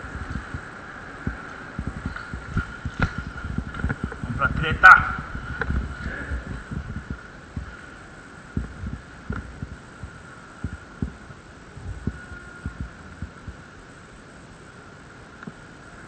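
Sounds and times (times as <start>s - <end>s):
dull low thumps: 0.0s - 7.8s, 8.5s - 13.6s
faint steady hum: 0.0s - 16.0s.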